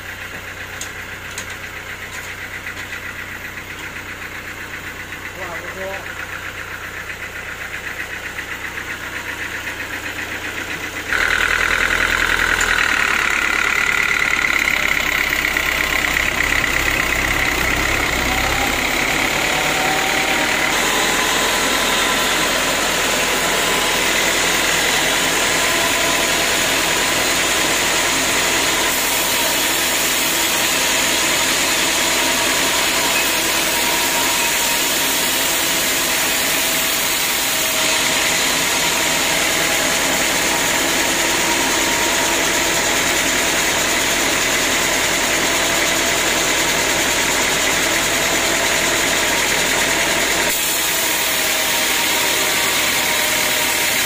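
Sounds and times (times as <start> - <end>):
engine running loud: 0.0 - 54.0.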